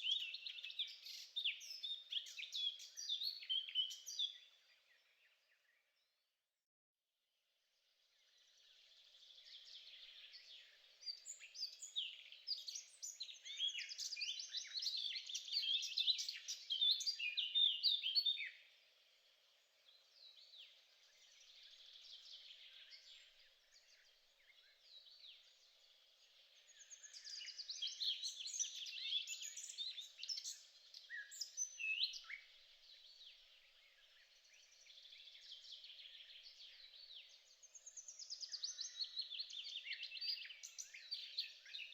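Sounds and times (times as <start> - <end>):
small birds chirping: 0.0 - 6.3, 7.8 - 41.9.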